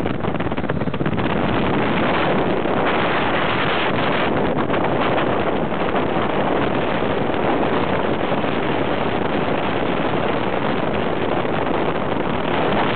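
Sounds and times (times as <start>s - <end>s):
car tyre and road noise: 0.0s - 12.9s
wind rushing over microphone: 0.0s - 12.9s.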